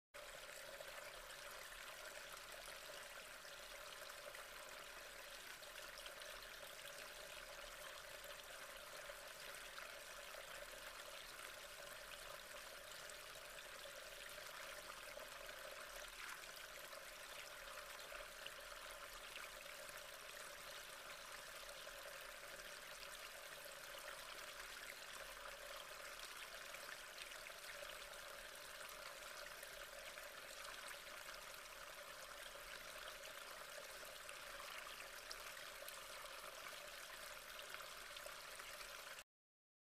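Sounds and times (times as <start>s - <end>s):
brook water trickling: 0.2s - 39.2s.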